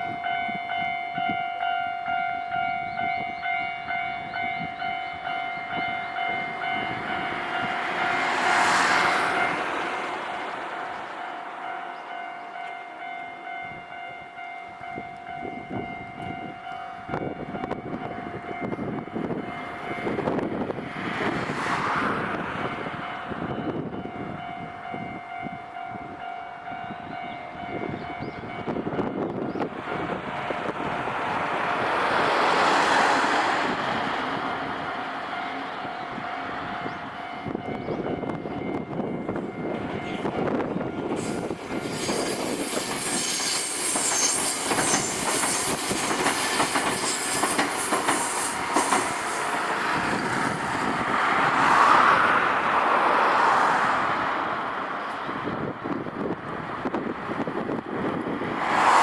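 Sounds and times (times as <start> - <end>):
level-crossing warning bell ringing: 0.0 - 20.8, 22.6 - 30.8, 32.0 - 51.1
train passing: 0.0 - 59.0.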